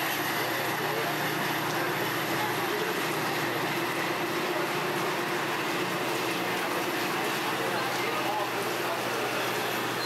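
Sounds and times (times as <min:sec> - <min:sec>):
train wheel and engine noise: 0:00.0 - 0:10.0.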